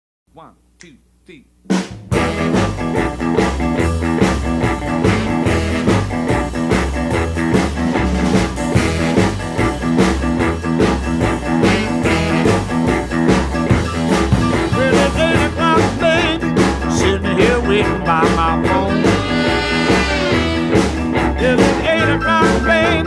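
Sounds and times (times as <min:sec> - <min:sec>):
blues rock band playing: 0:01.7 - 0:23.0.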